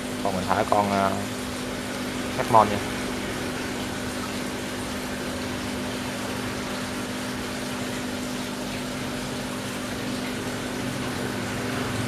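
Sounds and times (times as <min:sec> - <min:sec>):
aquarium pump humming: 0:00.0 - 0:12.0
moving water wash: 0:00.0 - 0:12.0.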